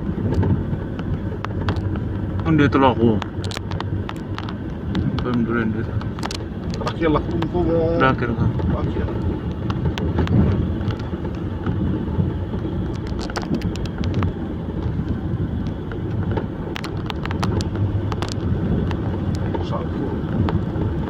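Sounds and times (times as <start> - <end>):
truck engine rumbling: 0.0 - 21.0
sharp clicks and knocks: 0.2 - 21.0.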